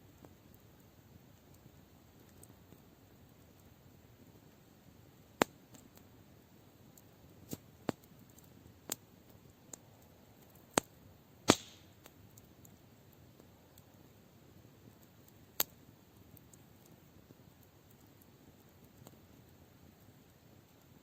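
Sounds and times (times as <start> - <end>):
campfire crackling: 0.0 - 21.0
burning wood popping: 0.1 - 21.0.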